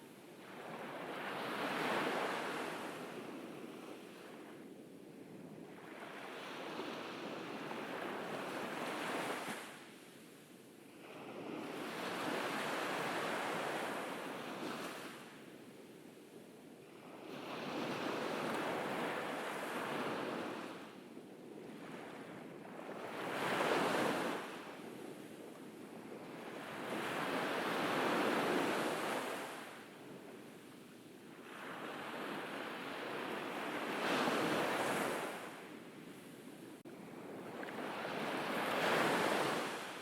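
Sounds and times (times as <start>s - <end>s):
ocean waves breaking on a beach: 0.0s - 40.0s.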